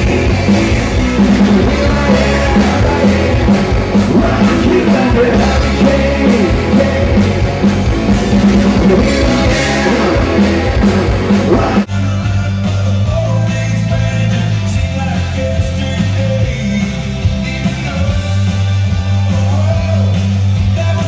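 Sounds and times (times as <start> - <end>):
live rock band with singer: 0.0 - 21.0
music with steady bass line: 0.0 - 21.0.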